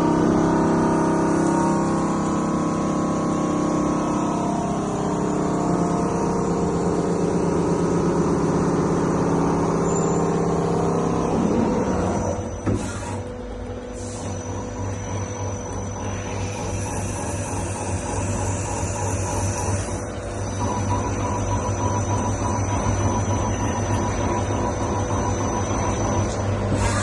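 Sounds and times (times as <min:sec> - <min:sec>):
lathe machine hum: 0:00.0 - 0:27.0.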